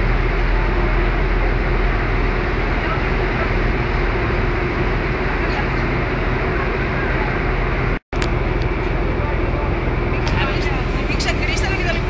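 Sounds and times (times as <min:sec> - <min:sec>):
boat engine droning: 0:00.0 - 0:12.0
water rushing: 0:00.0 - 0:12.0.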